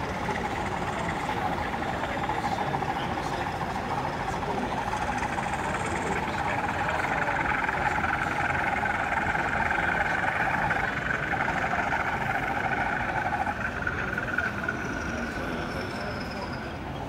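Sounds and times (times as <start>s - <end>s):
model locomotive engine sound: 0.0s - 17.0s.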